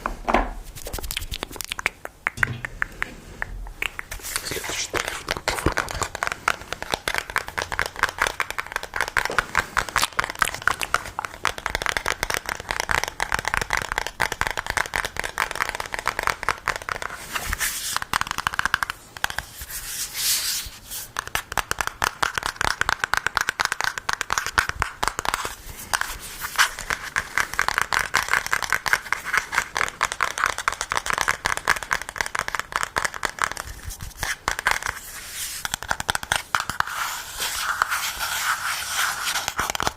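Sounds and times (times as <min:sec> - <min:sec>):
tapping and scratching on microphone: 0:00.0 - 0:20.1, 0:21.0 - 0:39.9.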